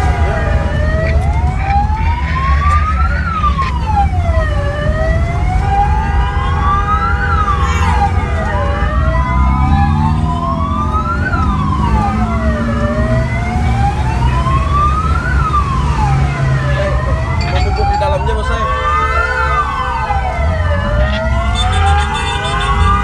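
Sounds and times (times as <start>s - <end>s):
sirens wailing: 0.0s - 23.0s.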